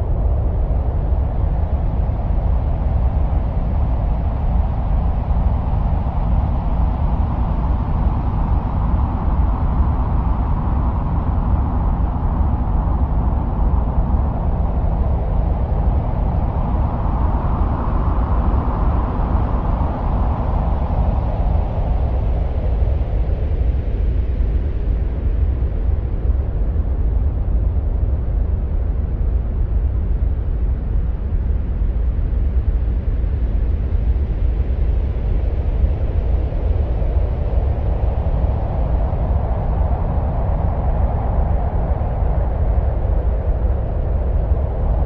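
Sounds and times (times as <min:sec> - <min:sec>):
low wind-like rumbling: 0:00.0 - 0:45.0.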